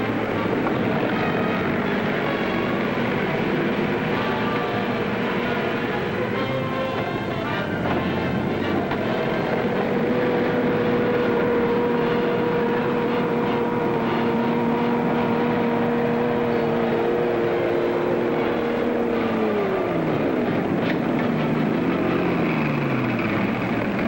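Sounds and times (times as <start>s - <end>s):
half-track engine running: 0.0s - 24.0s.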